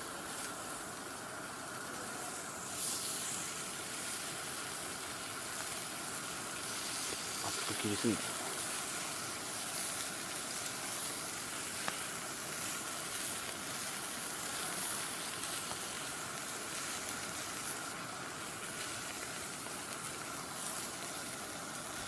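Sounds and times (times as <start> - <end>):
meat sizzling on iron griddle: 0.0 - 22.0.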